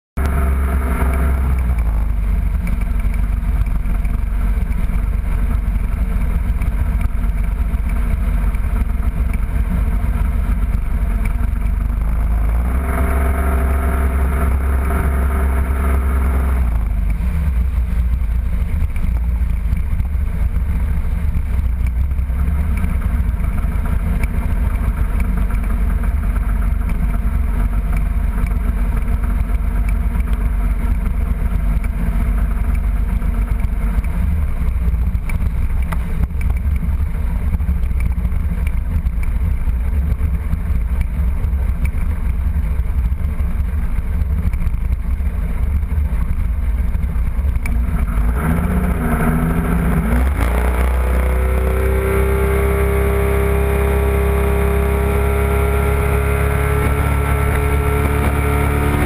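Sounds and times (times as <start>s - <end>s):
outboard motor running: 0.2s - 59.0s
wind rumble on microphone: 0.2s - 59.0s.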